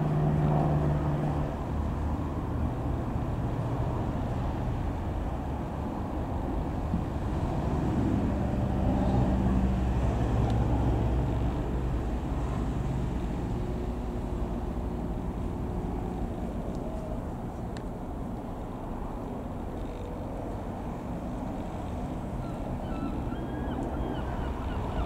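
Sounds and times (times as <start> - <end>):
propeller aircraft droning overhead: 0.0 - 25.0.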